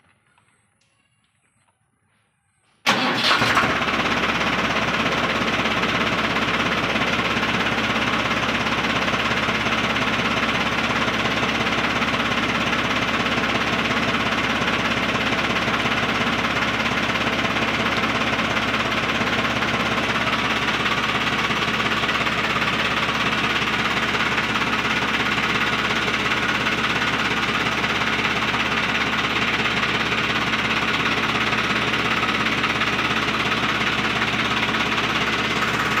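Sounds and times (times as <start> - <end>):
tractor diesel engine idling: 2.8 - 36.0.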